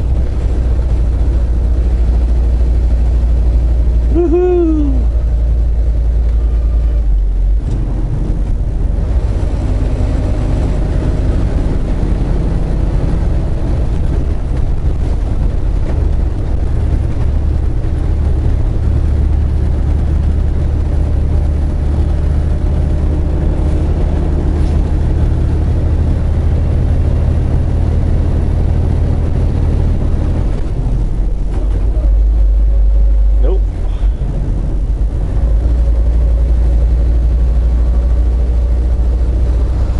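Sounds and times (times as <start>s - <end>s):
road noise: 0.0s - 39.9s
truck diesel engine rumble: 0.0s - 39.9s.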